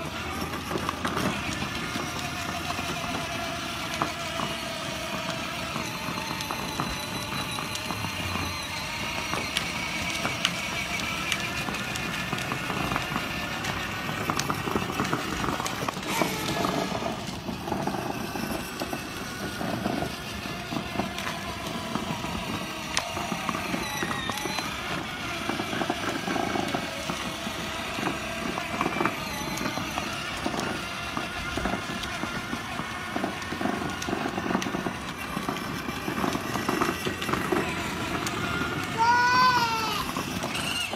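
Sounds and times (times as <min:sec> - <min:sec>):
crackles: 0:00.0 - 0:40.9
plastic wheels rolling on asphalt: 0:00.0 - 0:40.9
toy car electric motor: 0:00.0 - 0:40.9.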